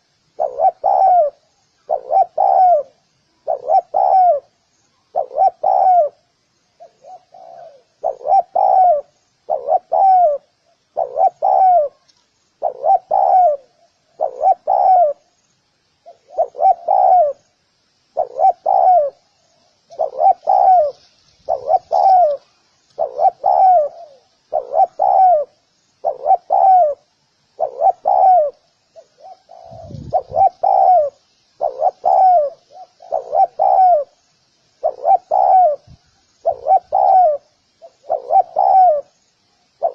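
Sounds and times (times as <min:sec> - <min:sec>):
dove cooing: 0:00.0 - 0:15.3, 0:16.0 - 0:39.9
small birds chirping: 0:00.0 - 0:39.9.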